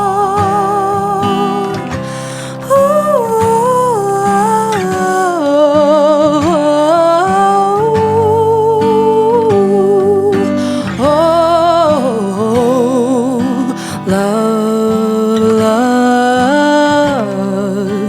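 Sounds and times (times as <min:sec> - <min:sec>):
guitar accompaniment: 0:00.0 - 0:18.0
woman singing with vibrato: 0:00.0 - 0:18.0.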